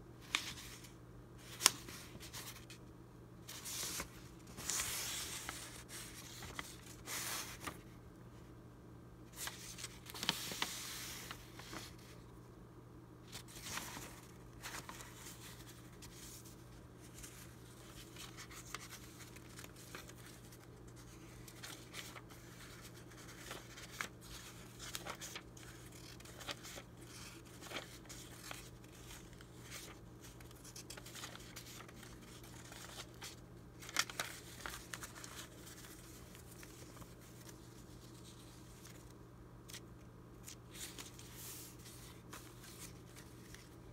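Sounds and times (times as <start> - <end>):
paper rustling and crinkling: 0.2 - 8.0, 9.3 - 12.4, 13.2 - 43.9.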